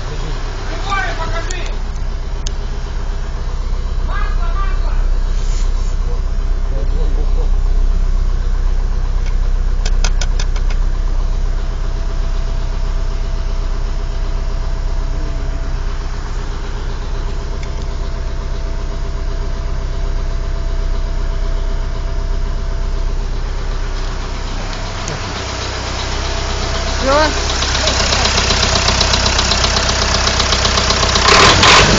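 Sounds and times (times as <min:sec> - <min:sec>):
car engine idling with knock: 0:00.0 - 0:31.9.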